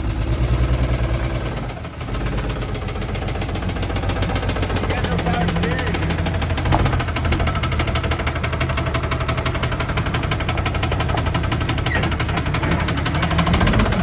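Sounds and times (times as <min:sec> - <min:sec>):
diesel engine idling with knock: 0:00.0 - 0:14.0.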